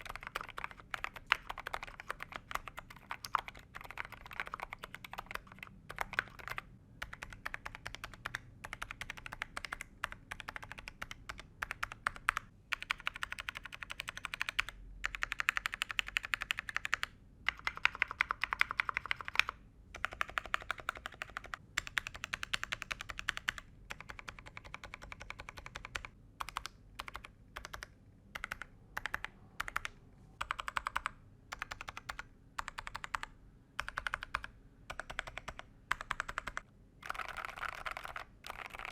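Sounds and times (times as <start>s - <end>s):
muted keyboard keystrokes: 0.0s - 38.9s.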